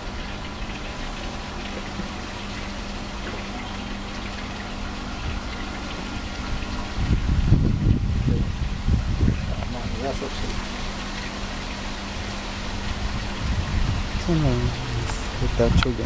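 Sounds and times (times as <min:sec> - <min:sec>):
water pump humming: 0:00.0 - 0:16.0
water swirling and draining: 0:00.0 - 0:16.0.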